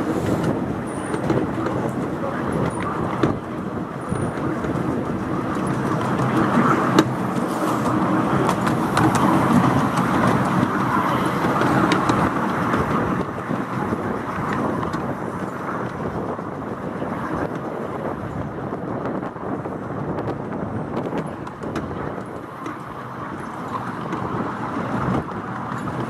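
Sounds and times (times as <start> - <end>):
train coaches rumbling on track: 0.0 - 26.0.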